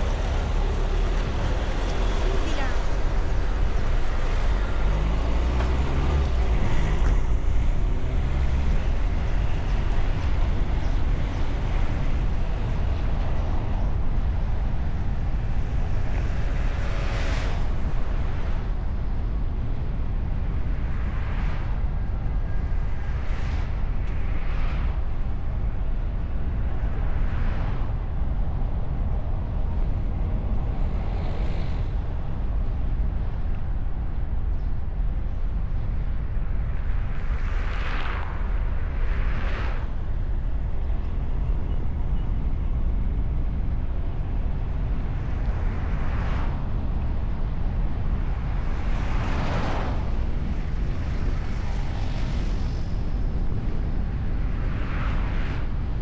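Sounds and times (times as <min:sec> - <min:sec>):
car wind and road noise: 0:00.0 - 0:56.0.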